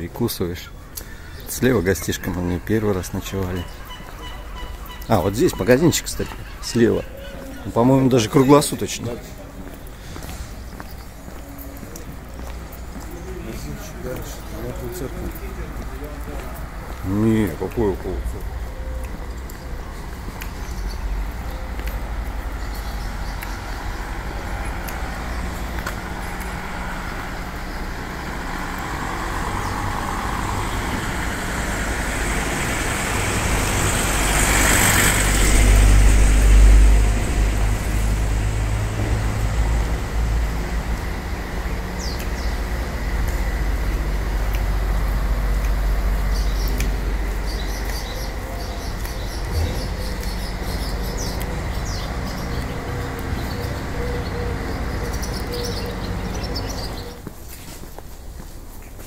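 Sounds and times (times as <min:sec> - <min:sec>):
birds chirping: 0:00.0 - 0:59.0
street traffic rumble: 0:00.0 - 0:59.0.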